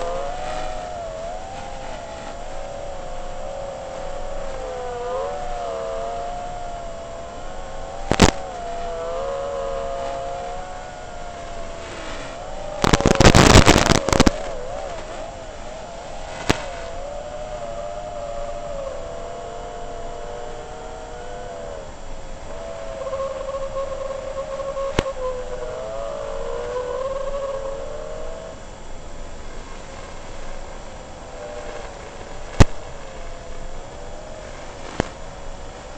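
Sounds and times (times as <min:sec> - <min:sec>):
drone motors whining: 0:00.0 - 0:35.9.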